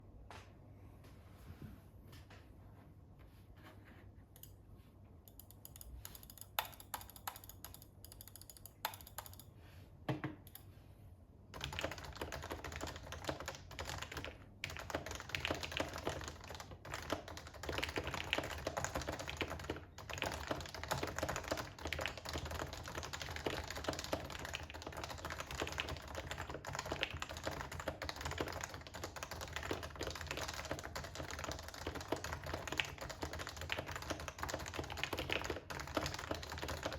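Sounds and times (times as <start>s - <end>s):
keyboard typing: 5.3s - 9.5s, 11.5s - 36.9s.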